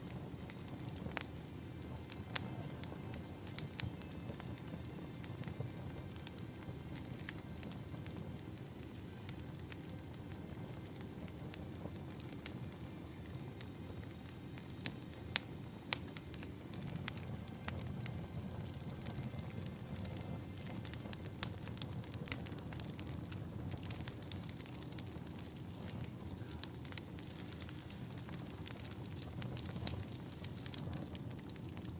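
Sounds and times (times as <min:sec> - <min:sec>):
fire crackling and popping: 0:00.0 - 0:31.9.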